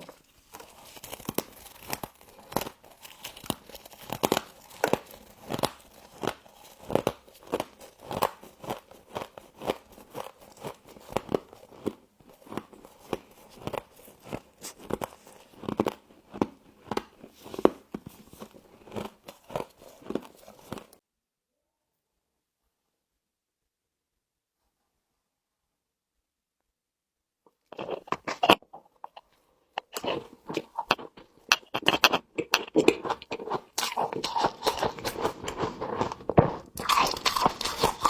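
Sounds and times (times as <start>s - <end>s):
crunching and chewing frost: 0.0s - 21.0s, 27.5s - 38.0s.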